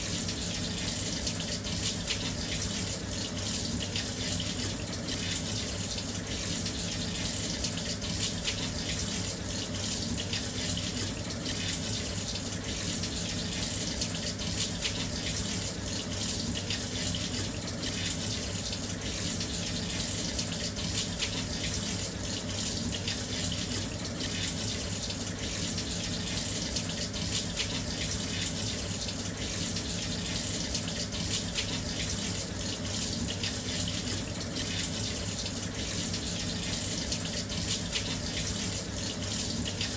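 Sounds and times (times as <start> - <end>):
water rushing into washing machine: 0.0 - 39.9.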